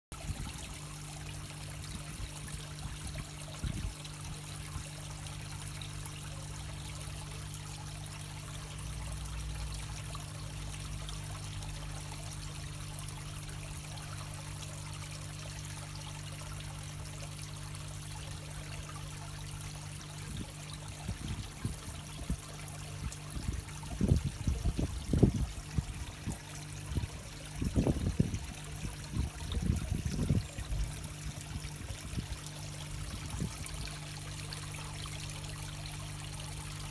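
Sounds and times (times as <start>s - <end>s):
pond water trickling: 0.1s - 36.9s
low steady hum: 0.2s - 36.9s.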